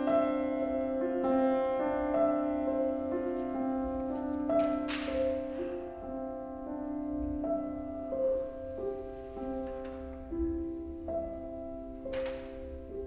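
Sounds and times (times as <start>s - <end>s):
piano violin and cello playing: 0.0s - 13.0s.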